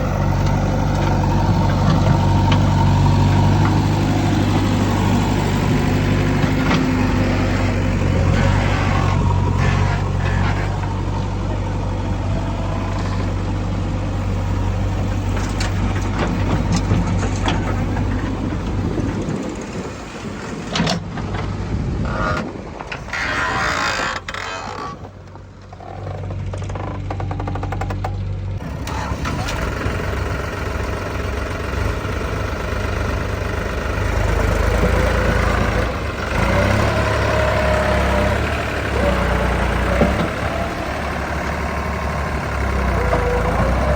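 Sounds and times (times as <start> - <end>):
heavy diesel engines running: 0.0 - 43.9.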